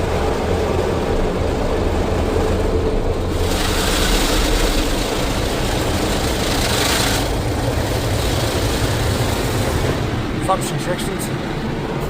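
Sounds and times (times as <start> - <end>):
car wash brushes and water spray: 0.0 - 10.7
low machine rumble: 0.0 - 12.0.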